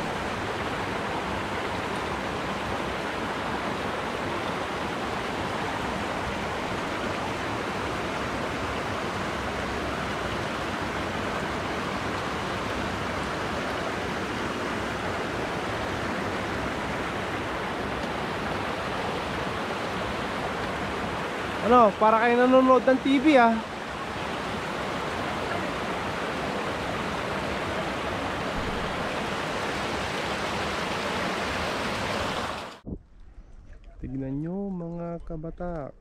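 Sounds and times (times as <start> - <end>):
fast-flowing water rushing: 0.0 - 32.8.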